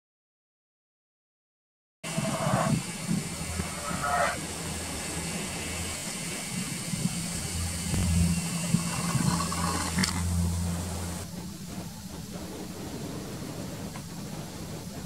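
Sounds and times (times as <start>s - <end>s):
outdoor background noise: 2.0s - 15.0s
low mechanical hum: 2.1s - 15.0s.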